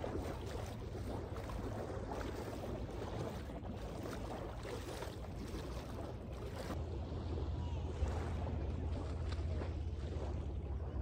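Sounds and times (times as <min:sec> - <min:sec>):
waves lapping on shore: 0:00.0 - 0:11.0
wind rumbling on microphone: 0:00.0 - 0:11.0.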